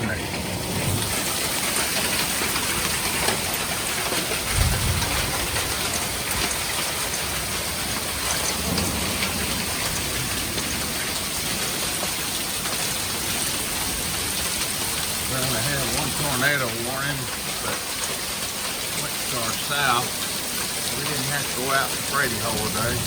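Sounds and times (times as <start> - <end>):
thunder rumbling: 0.0 - 16.5, 20.9 - 23.0
heavy rain falling: 0.0 - 23.0.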